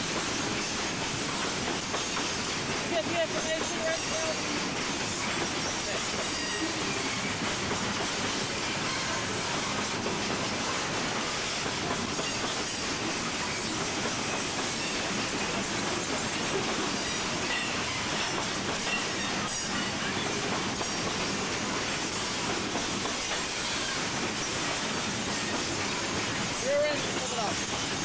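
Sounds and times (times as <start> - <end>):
freight train rolling rumble: 0.0 - 28.0.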